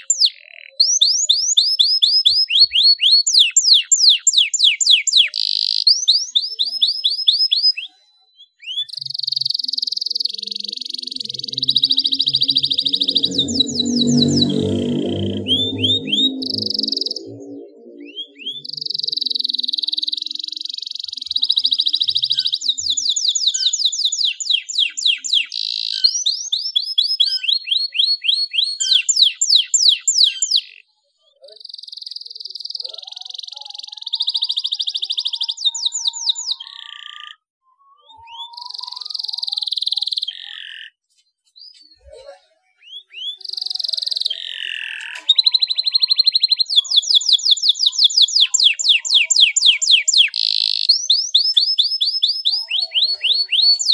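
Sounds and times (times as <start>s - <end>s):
canary singing trills: 0.0s - 41.0s, 41.6s - 53.9s.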